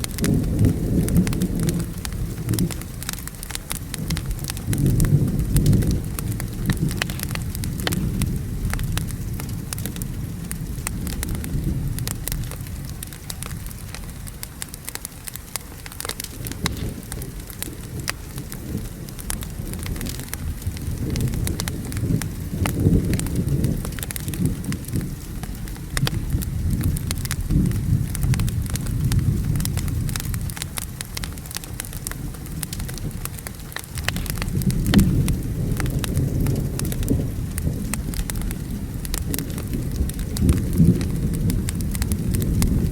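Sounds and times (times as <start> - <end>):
low thunder rumbling: 0.0 - 14.9, 15.8 - 42.9
steady rain: 0.0 - 42.9
wood fire crackling: 0.0 - 42.9.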